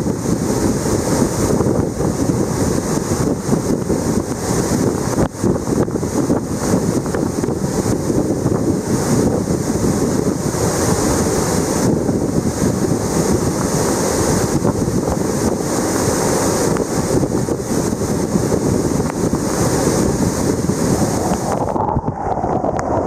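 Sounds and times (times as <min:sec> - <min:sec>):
waterfall rushing: 0:00.0 - 0:23.0
whitewater churning over boulders: 0:00.0 - 0:23.0
wind gusting on microphone: 0:00.0 - 0:23.0.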